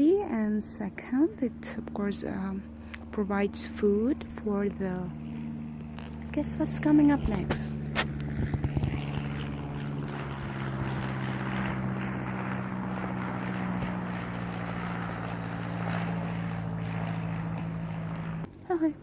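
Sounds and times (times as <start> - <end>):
airplane engine drone: 0.0 - 19.0
insects chirping: 0.4 - 6.4, 7.7 - 19.0.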